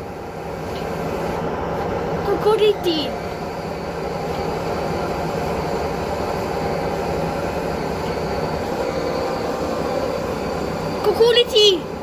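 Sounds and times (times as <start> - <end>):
washing machine drum spinning: 0.0 - 12.0.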